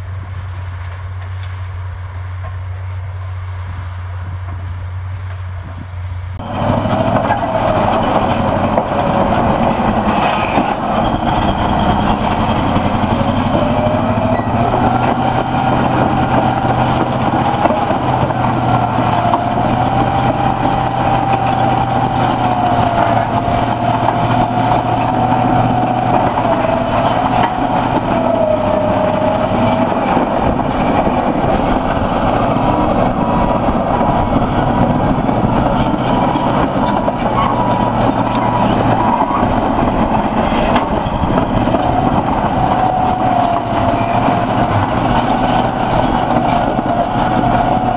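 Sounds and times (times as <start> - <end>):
diesel engine drone: 0.0 - 47.9.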